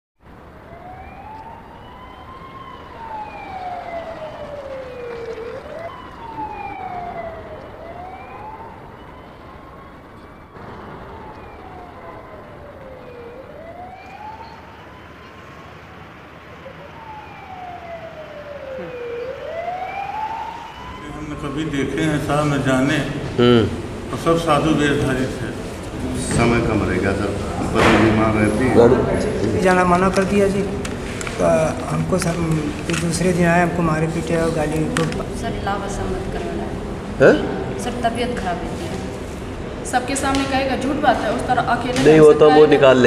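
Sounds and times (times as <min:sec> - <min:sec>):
siren wailing: 0:00.3 - 0:43.0.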